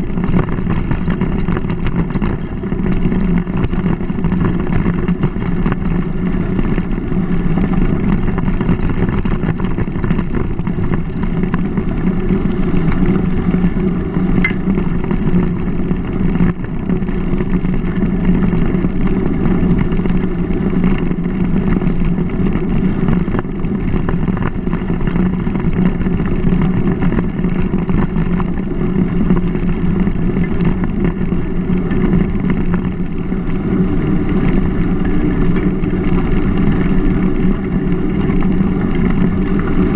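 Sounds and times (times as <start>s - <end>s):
bike tyres rolling on dirt: 0.0s - 39.9s
wind on microphone: 0.0s - 39.9s.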